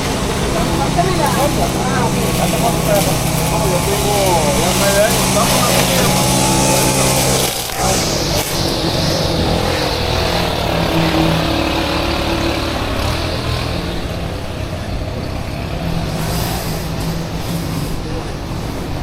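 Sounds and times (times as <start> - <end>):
engine humming: 0.0 - 19.0
rushing air: 0.0 - 19.0.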